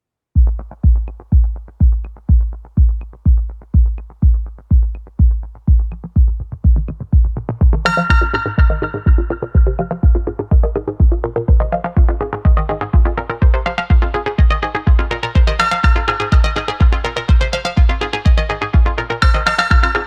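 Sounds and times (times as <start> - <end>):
heavy kick drum: 0.4 - 20.0.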